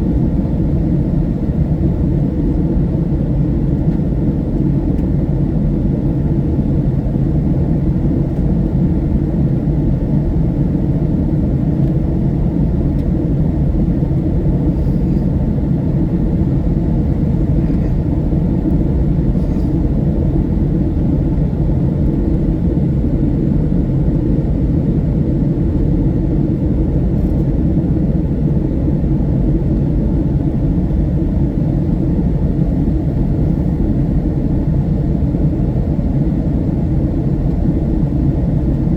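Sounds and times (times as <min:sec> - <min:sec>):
airliner engine rumble: 0:00.0 - 0:38.9.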